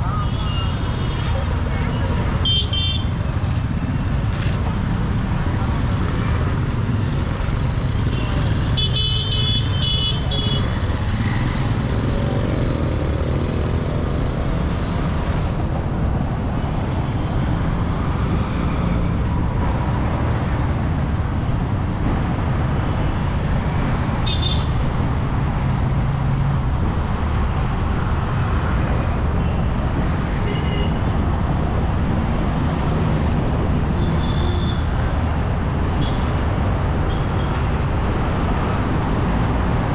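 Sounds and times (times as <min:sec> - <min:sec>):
traffic rumble: 0:00.0 - 0:39.9.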